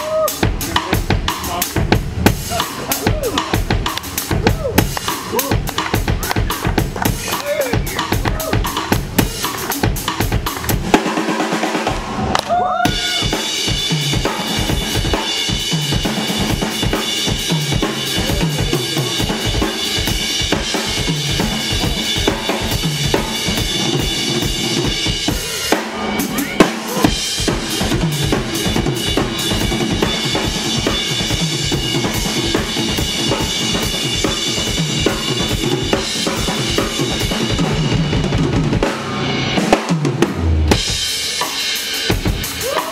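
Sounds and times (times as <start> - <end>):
bass guitar: 0.0 - 11.0, 11.8 - 41.1
drum kit beat: 0.0 - 42.9.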